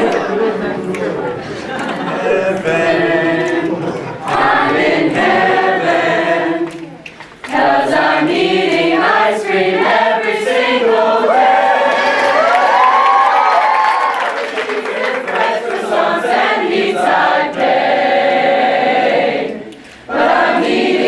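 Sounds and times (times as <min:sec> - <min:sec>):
group of voices singing: 0:00.0 - 0:12.5, 0:14.4 - 0:21.0.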